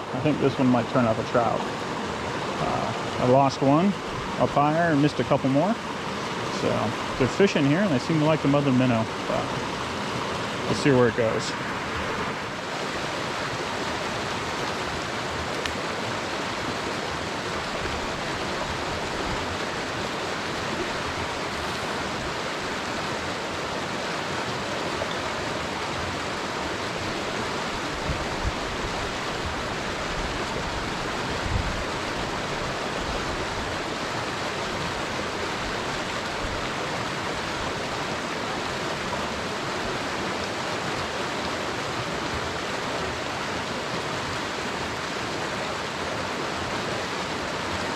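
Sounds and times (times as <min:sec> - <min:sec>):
creek running over rocks: 0:00.0 - 0:47.9.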